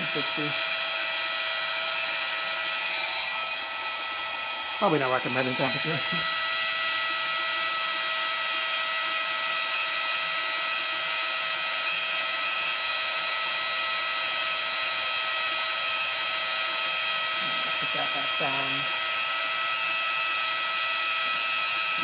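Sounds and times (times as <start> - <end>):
electric pump whining: 0.0 - 22.0.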